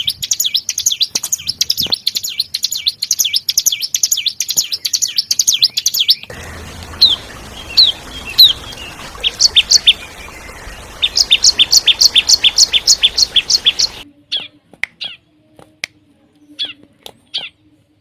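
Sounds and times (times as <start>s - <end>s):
bird chirping: 0.0s - 15.2s
fast series of sharp bird notes: 0.0s - 15.2s.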